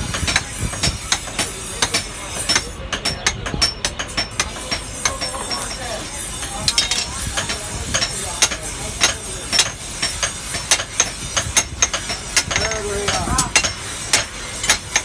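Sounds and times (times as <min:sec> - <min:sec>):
hammer striking hot steel: 0:00.0 - 0:15.0.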